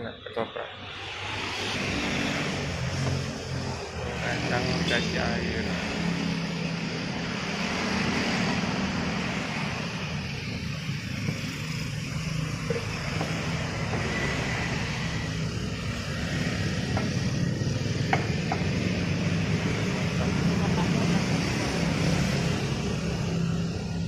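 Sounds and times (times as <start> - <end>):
cars passing: 0.1 - 24.0
motorcycles passing: 0.5 - 24.0.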